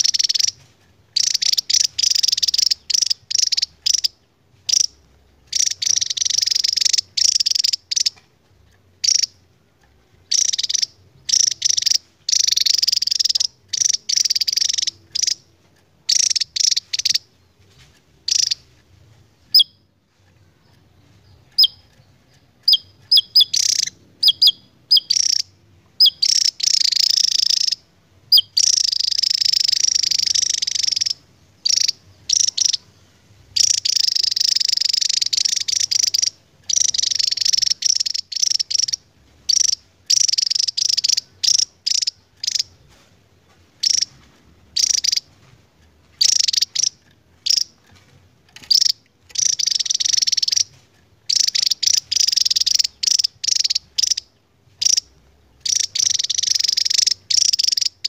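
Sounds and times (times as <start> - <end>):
bird singing high-pitched trills: 0.0 - 0.6, 1.2 - 8.2, 9.0 - 9.4, 10.2 - 15.5, 16.1 - 17.4, 18.3 - 18.7, 19.5 - 19.9, 20.7 - 33.0, 33.6 - 42.9, 43.8 - 44.2, 44.8 - 45.4, 46.2 - 47.8, 48.6 - 58.0.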